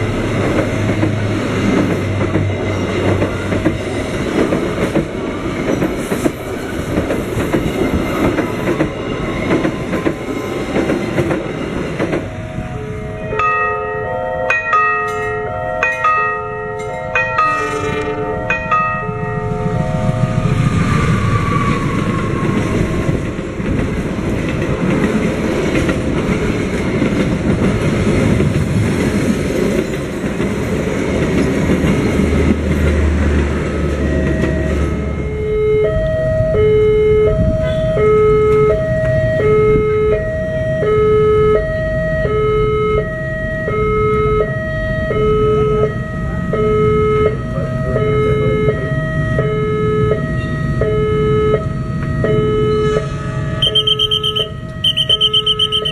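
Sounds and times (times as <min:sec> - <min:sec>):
two-tone crossing warning alarm: 0:00.0 - 0:24.0, 0:32.4 - 0:55.9
passenger train passing: 0:00.0 - 0:55.9.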